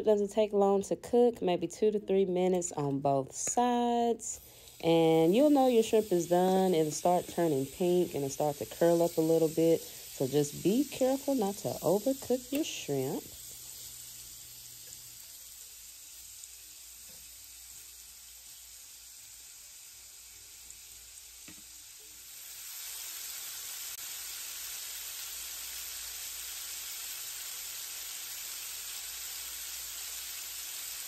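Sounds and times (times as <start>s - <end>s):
shrimp sizzling in pan: 3.4s - 31.0s.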